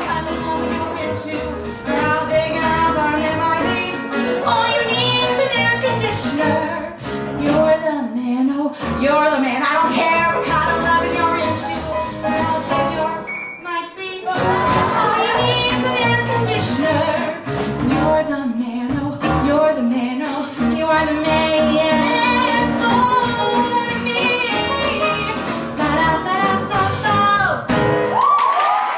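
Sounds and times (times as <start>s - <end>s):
live band playing: 0.0s - 7.8s, 8.8s - 28.4s
woman singing: 0.0s - 27.7s.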